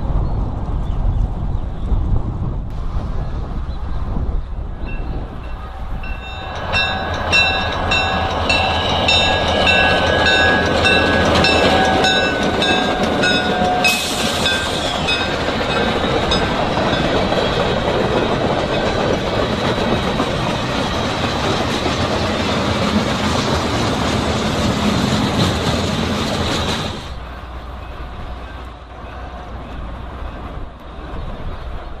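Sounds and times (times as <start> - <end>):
freight train rolling past: 2.7 - 32.0.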